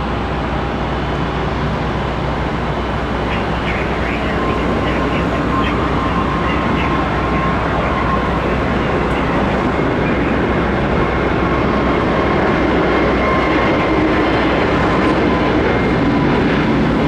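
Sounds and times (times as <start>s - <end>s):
faint jet whine: 0.0s - 17.0s
jet engine rumble: 0.0s - 17.0s.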